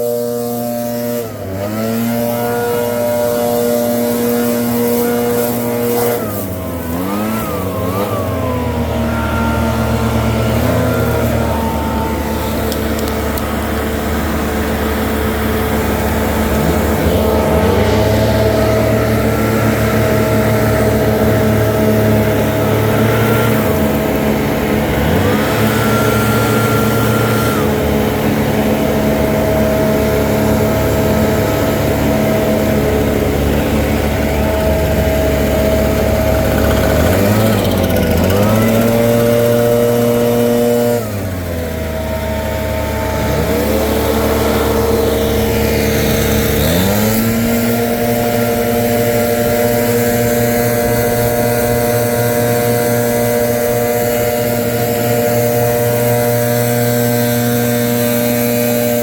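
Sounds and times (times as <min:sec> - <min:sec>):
leaf blower running: 0:00.0 - 0:59.0.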